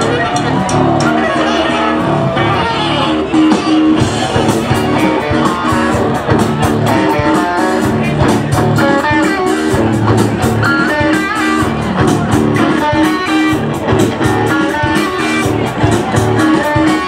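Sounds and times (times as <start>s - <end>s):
live rock band: 0.0s - 17.0s.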